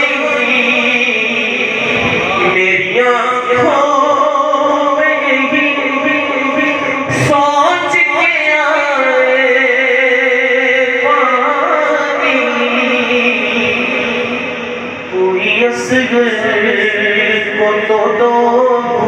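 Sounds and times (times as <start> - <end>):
man singing slow lament: 0.0 - 19.0.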